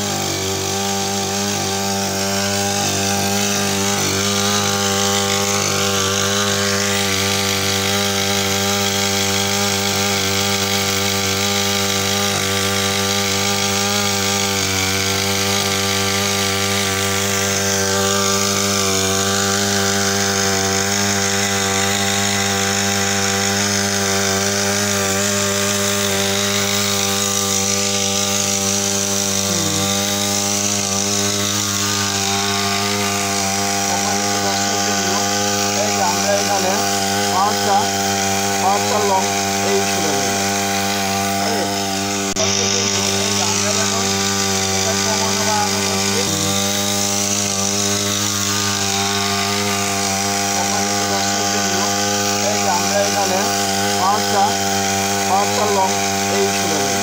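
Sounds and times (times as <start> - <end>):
two-stroke engine running: 0.0 - 57.0.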